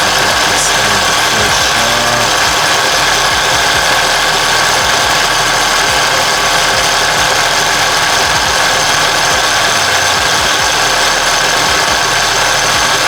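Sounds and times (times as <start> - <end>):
car engine whirring: 0.0 - 13.0.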